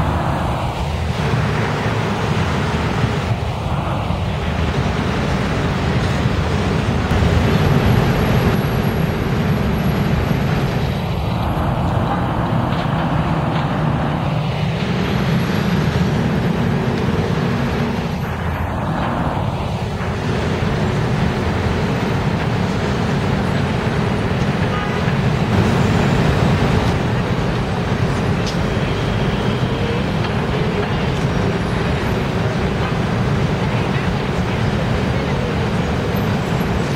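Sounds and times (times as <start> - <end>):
traffic rumble: 0.0 - 36.9
vehicles passing close by: 0.0 - 36.9.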